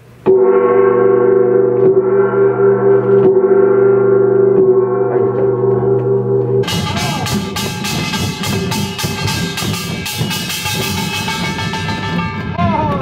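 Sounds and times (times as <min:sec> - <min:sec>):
gong ringing: 0:00.2 - 0:12.8.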